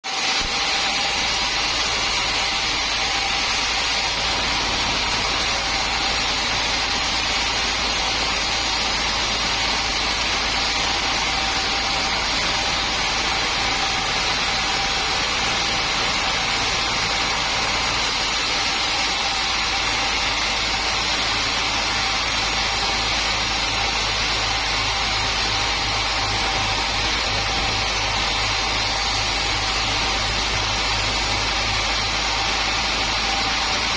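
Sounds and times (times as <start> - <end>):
sawmill machinery humming: 0.0 - 33.9.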